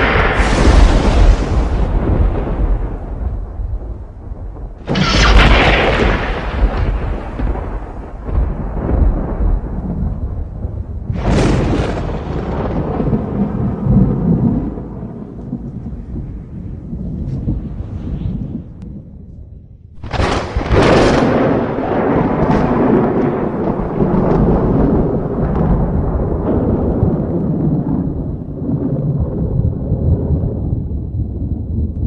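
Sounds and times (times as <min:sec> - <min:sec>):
sharp thunderclap: 0:00.0 - 0:19.1, 0:20.0 - 0:32.0
thunder rumbling: 0:00.0 - 0:32.0.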